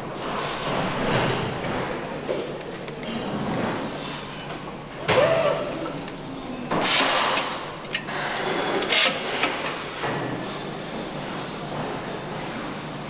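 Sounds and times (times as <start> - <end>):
workshop background noise: 0.0 - 13.0.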